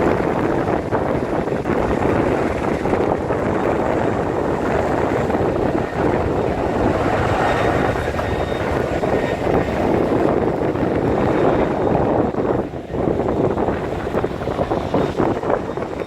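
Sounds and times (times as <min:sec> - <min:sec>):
engine drone: 0:00.0 - 0:16.0
wind noise on microphone: 0:00.0 - 0:16.0.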